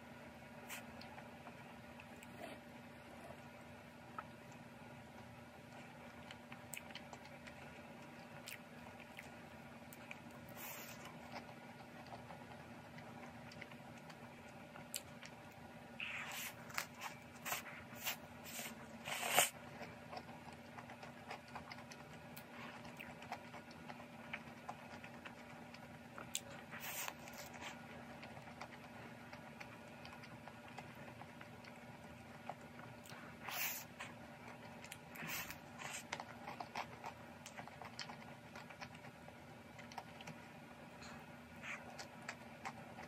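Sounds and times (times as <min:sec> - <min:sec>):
biting and chewing: 0:00.6 - 0:43.0.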